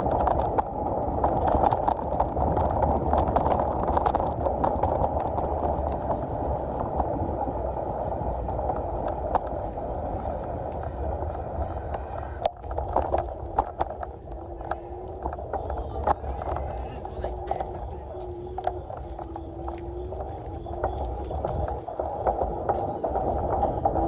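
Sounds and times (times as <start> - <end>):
rolling road noise: 0.0 - 24.0
small clicks and rattles: 0.0 - 24.0
wind on microphone: 0.0 - 24.0.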